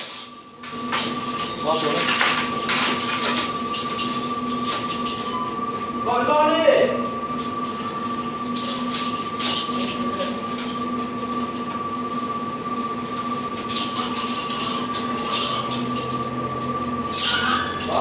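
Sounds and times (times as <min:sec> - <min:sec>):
mechanical hum with whine: 0:00.0 - 0:18.0.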